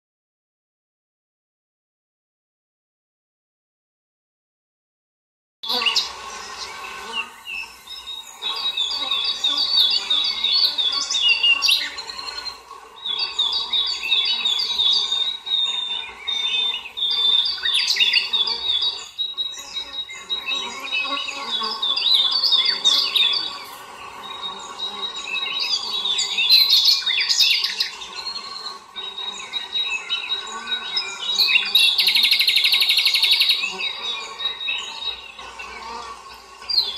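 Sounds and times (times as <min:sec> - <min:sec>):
insect buzz: 0:05.6 - 0:36.9
songbirds chirping and singing: 0:05.6 - 0:36.9.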